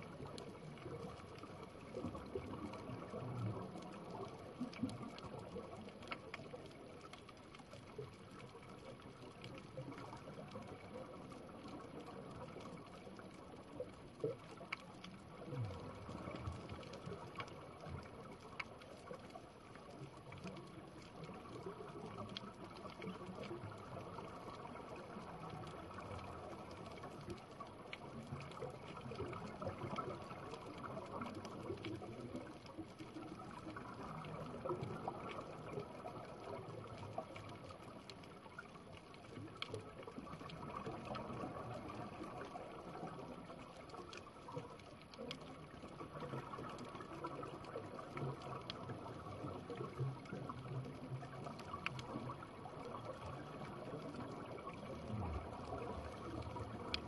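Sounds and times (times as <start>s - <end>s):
faint underwater clicks: 0.0s - 57.0s
underwater watery rushing: 0.0s - 57.0s.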